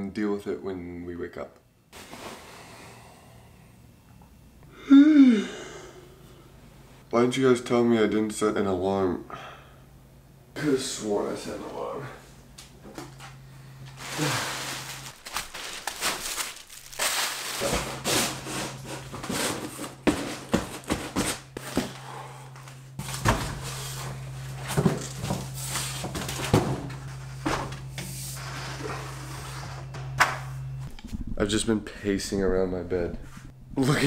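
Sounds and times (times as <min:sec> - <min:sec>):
steady low hum: 0:00.5 - 0:34.0.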